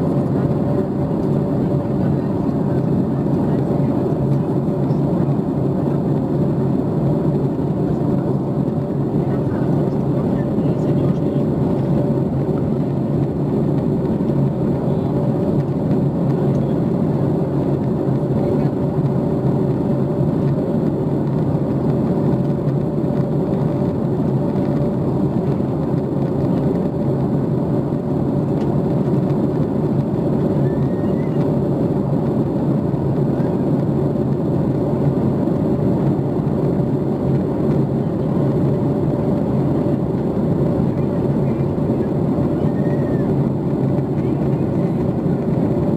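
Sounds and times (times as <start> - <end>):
jet engines humming: 0.0 - 45.9.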